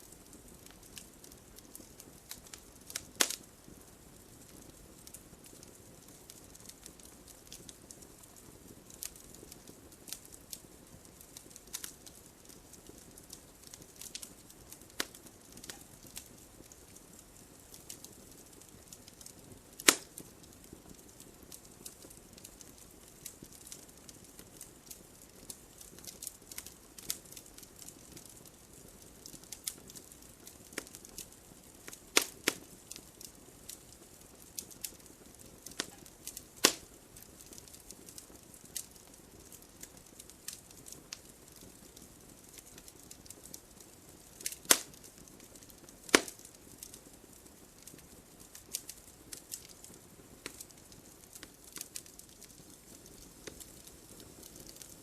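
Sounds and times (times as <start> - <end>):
fire pops: 0.0 - 55.0
logs crackling in fireplace: 0.0 - 55.0.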